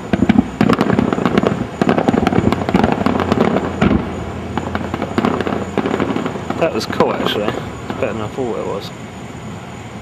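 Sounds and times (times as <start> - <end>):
fireworks cracking and popping: 0.0 - 8.9
fireworks rumble: 0.0 - 10.0.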